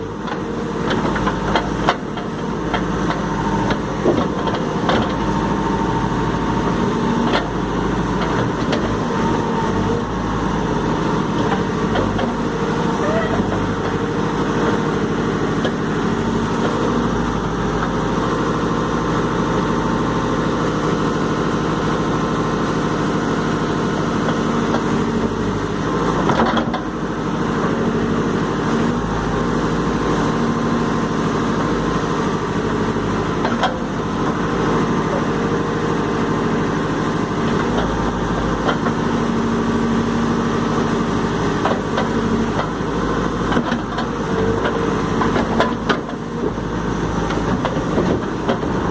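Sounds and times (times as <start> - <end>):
diesel backhoe engine running: 0.0 - 48.9.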